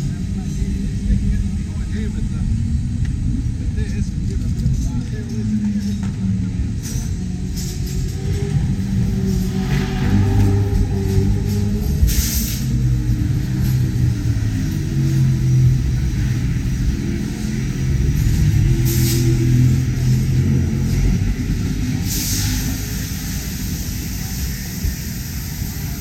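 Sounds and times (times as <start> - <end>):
racing car engines running: 0.0 - 26.0.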